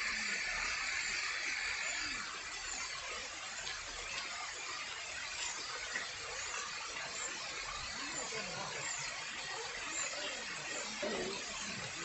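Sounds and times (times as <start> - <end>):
brook flowing water: 0.0 - 12.0.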